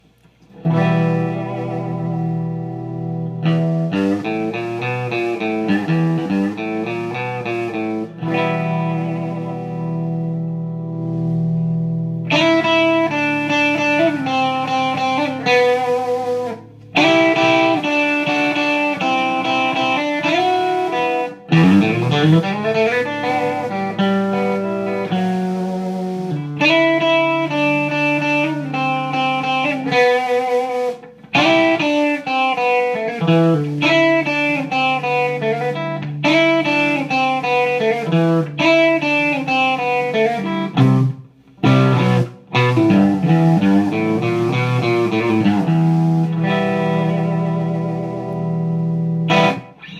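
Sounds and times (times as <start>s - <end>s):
electric guitar bluesy licks: 0.0s - 49.9s.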